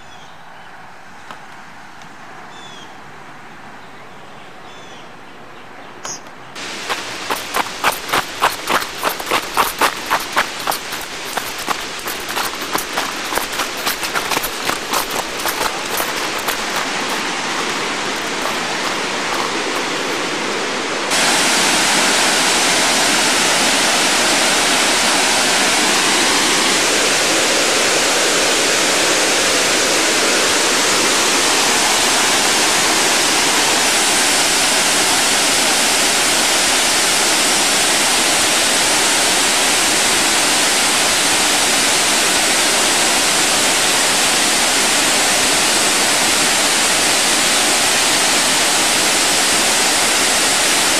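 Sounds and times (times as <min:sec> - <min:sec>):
rushing water: 0:06.6 - 0:50.9.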